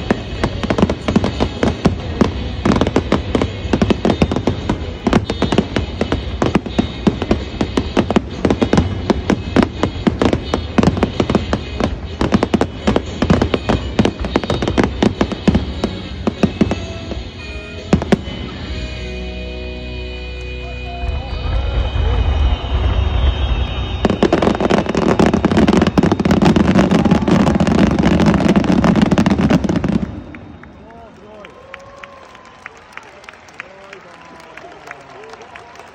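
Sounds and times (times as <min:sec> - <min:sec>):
fireworks bangs and crackles: 0:00.0 - 0:19.2, 0:20.2 - 0:31.4.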